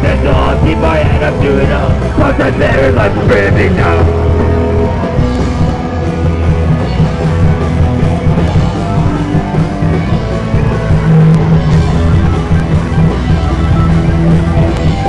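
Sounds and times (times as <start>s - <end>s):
bass guitar: 0.0s - 15.0s
drum kit: 0.0s - 15.0s
electric guitars: 0.0s - 15.0s.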